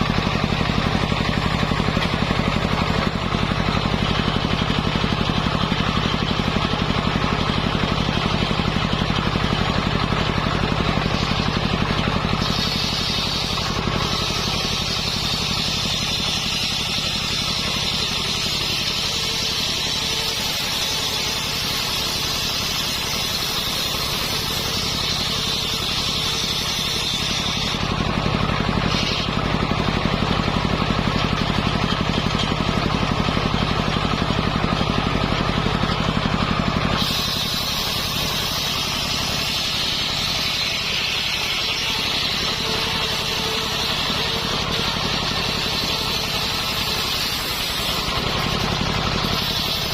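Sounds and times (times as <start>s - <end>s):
circular saw cutting wood: 0.0s - 49.9s
sawmill engine running: 0.0s - 49.9s.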